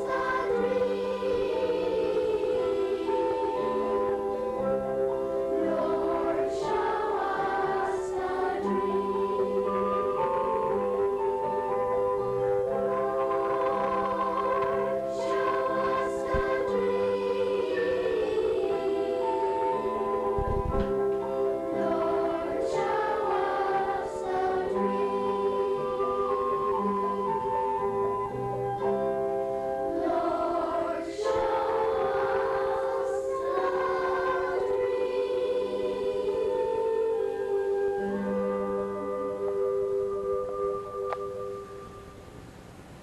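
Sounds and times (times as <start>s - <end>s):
youth choir singing in harmony: 0.0s - 41.6s.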